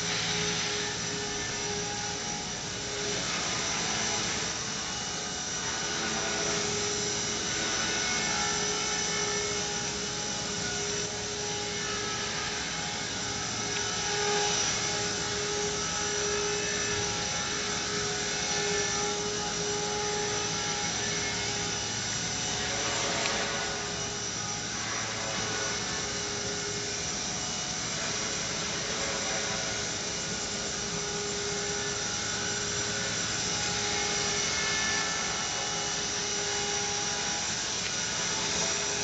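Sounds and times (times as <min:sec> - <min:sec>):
toy helicopter whining: 0:00.0 - 0:39.0.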